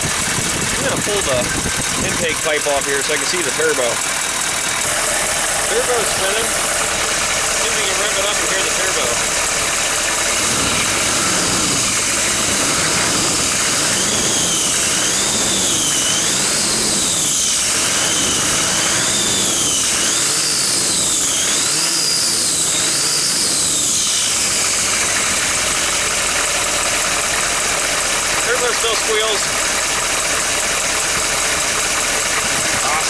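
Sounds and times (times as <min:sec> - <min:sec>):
diesel engine revving: 0:00.0 - 0:33.0
turbocharger whine: 0:00.0 - 0:33.0.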